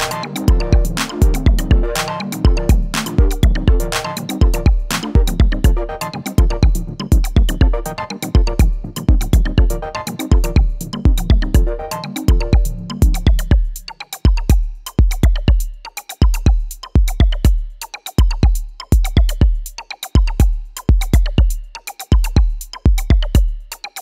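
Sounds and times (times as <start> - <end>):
electronic music with drum beat: 0.0 - 24.0.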